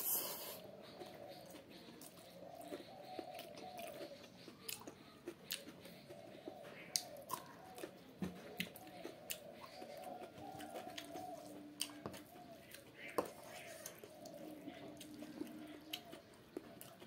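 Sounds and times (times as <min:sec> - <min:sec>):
chewing noodles: 0:00.0 - 0:17.0.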